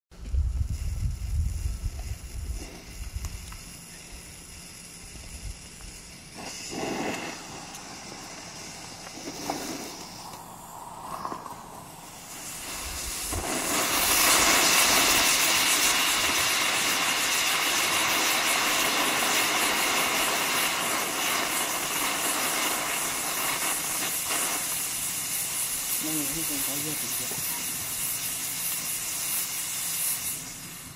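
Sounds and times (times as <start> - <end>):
firework fizzing and sputtering: 0.2 - 30.9
firework loud hiss: 0.2 - 30.9.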